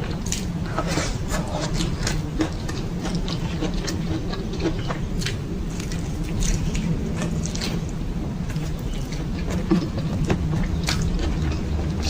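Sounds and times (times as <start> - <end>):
chewing mouth sounds: 0.0 - 12.0
steady low hum: 0.0 - 12.0.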